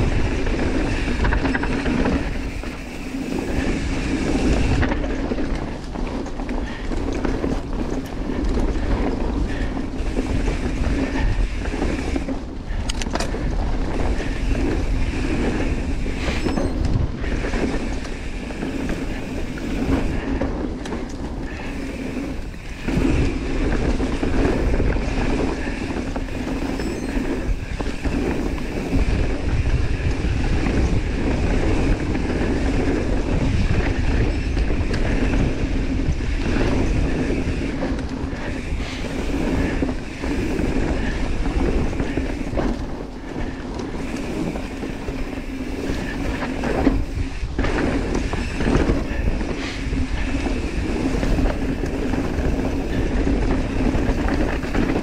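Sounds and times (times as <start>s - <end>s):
bike rattling: 0.0s - 55.0s.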